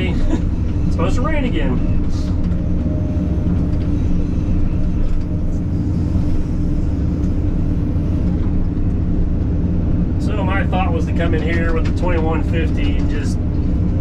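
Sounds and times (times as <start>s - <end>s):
excavator diesel engine droning: 0.0s - 14.0s.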